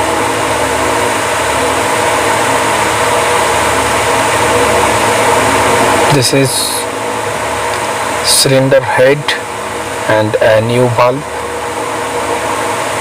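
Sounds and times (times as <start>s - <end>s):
engine-room machinery drone: 0.0s - 13.0s.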